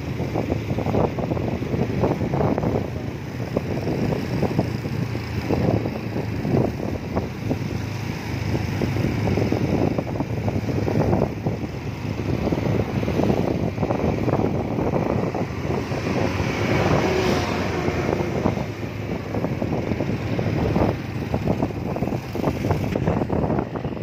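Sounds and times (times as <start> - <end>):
motorcycle engine hum: 0.0 - 24.0
wind buffeting microphone: 0.0 - 24.0.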